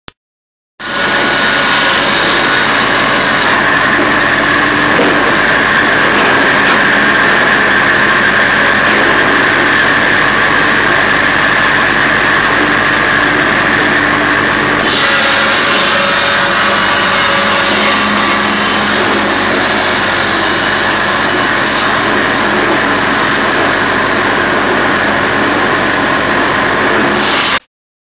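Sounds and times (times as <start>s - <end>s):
firewood processor running: 0.8s - 27.6s.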